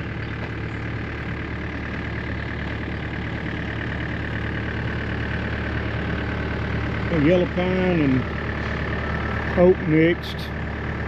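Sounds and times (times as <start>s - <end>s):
machine engine humming: 0.0s - 11.0s.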